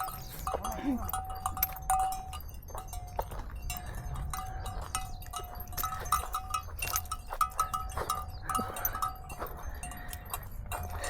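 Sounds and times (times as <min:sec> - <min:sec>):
cattle bells clanking: 0:00.0 - 0:11.0.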